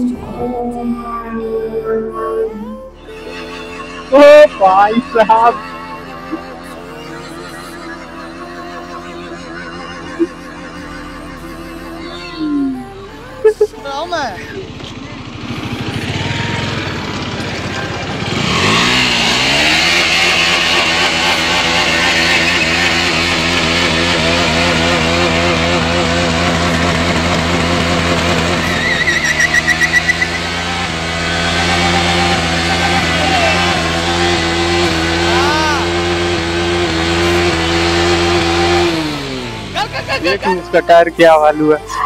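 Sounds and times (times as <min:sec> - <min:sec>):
rear tyre spinning: 0:00.0 - 0:06.9, 0:07.7 - 0:42.0
motorcycle engine revving: 0:00.0 - 0:42.0.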